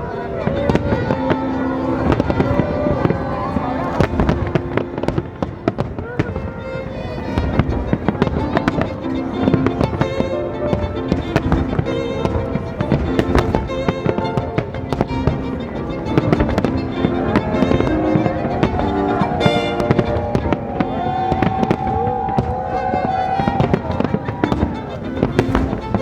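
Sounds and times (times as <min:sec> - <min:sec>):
fireworks bursting: 0:00.0 - 0:26.0
violin music: 0:00.0 - 0:26.0.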